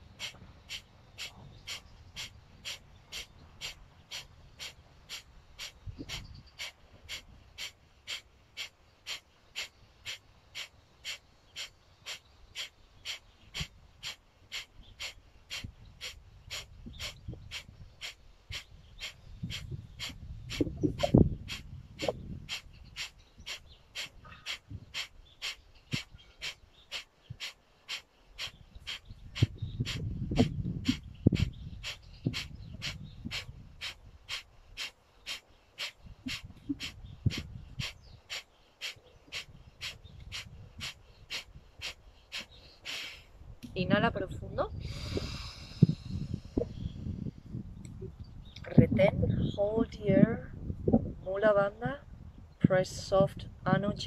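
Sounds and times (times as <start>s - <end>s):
forceful nasal exhalations: 0.1s - 43.3s, 44.7s - 47.4s.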